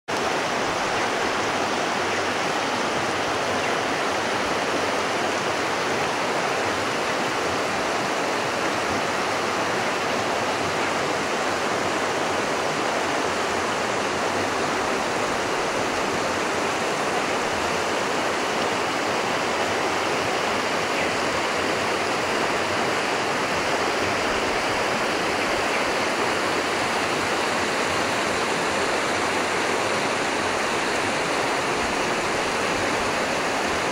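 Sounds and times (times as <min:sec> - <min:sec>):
flowing river water: 0:00.1 - 0:33.9.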